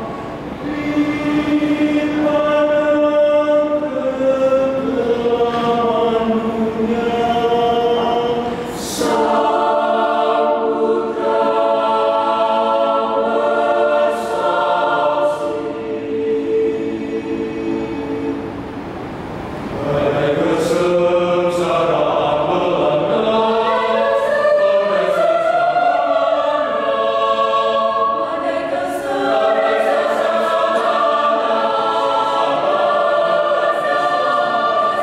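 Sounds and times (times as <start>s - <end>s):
mixed choir singing: 0.0s - 18.8s, 19.4s - 35.0s.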